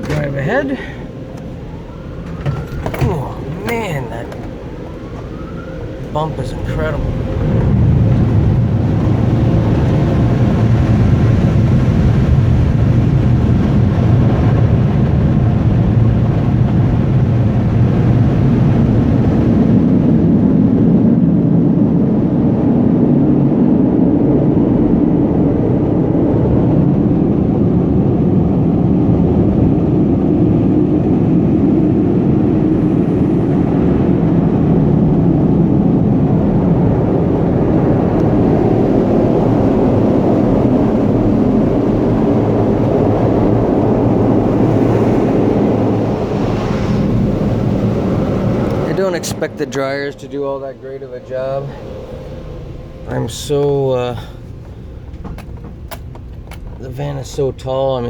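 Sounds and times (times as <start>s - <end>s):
car wash air dryers roaring: 0.0s - 58.0s.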